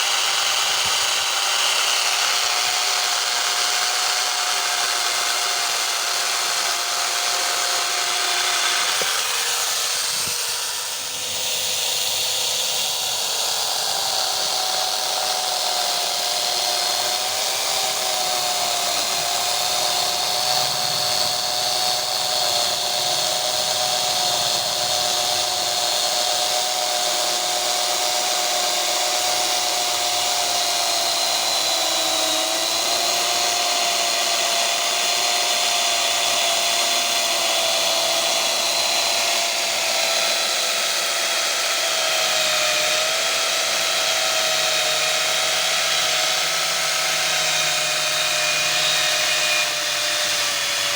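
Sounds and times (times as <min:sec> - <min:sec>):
electric chainsaw cutting wood: 0:00.0 - 0:50.9.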